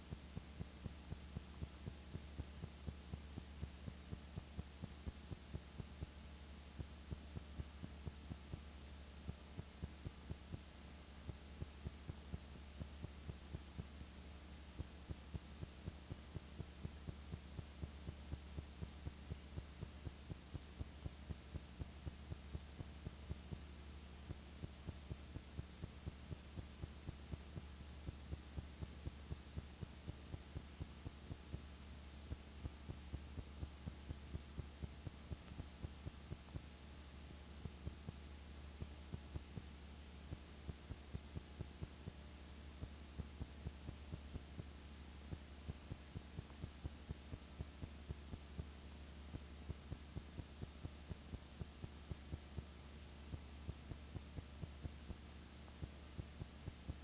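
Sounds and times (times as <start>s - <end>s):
faint evenly spaced ticks: 0.0s - 57.0s
low electrical hum: 0.0s - 57.0s.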